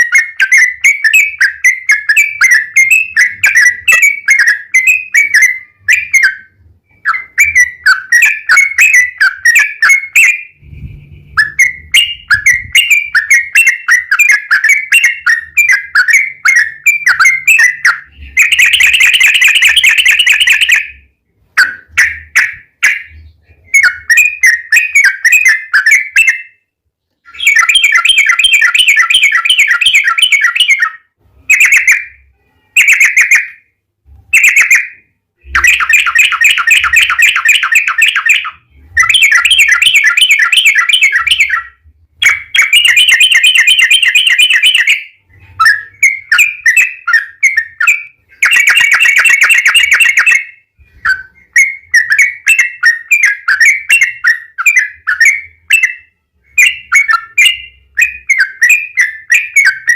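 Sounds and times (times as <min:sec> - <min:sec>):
bulbul chattering song: 0:00.0 - 0:33.7, 0:34.3 - 0:59.9.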